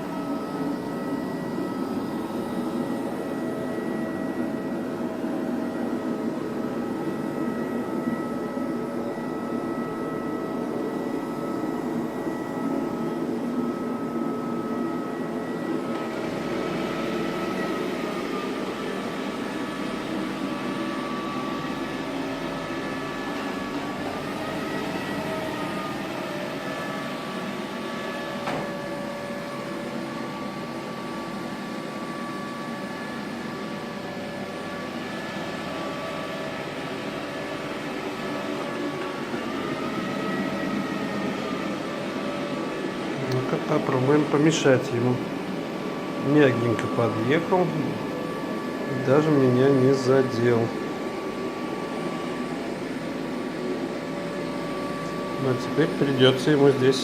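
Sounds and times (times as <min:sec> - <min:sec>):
robot vacuum cleaner whirring: 0:00.0 - 0:57.0.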